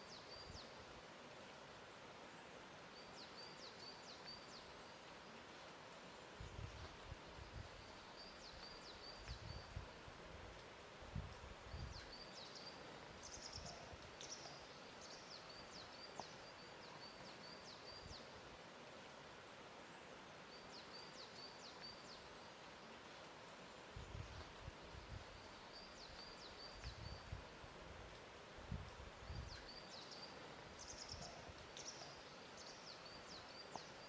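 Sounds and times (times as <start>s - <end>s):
songbird chirping: 0.0s - 34.0s
steady hiss: 0.0s - 34.0s.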